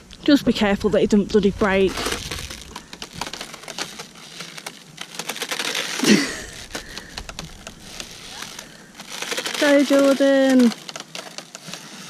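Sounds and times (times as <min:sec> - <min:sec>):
wooden rope swing creaking: 0:00.0 - 0:12.0.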